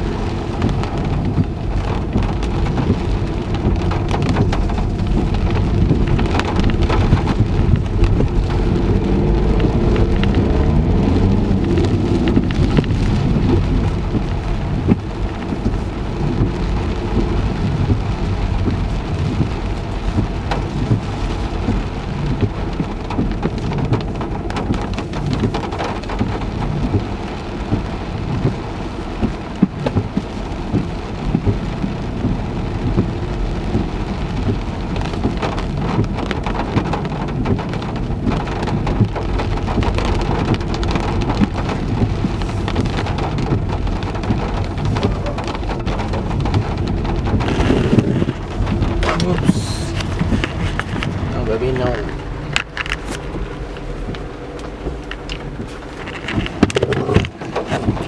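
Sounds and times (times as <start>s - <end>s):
deep low rumble: 0.0s - 58.0s
rain pattering on a car: 0.0s - 58.0s.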